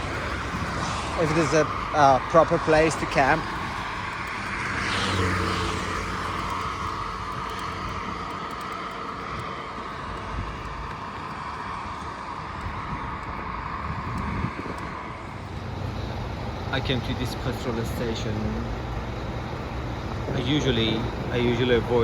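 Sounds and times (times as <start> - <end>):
vehicle passing by: 0.0 - 19.4
traffic hiss and rumble: 0.0 - 22.0.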